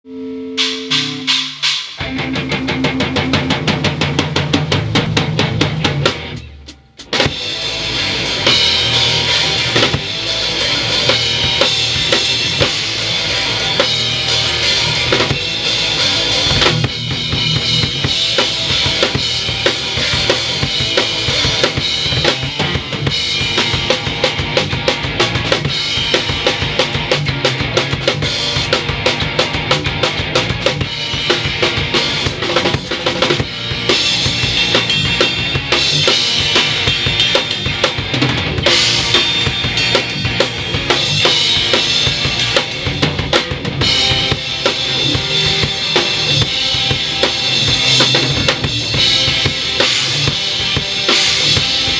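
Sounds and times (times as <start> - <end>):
rock band playing: 0.1 - 51.9
drums and cymbals: 0.6 - 51.9.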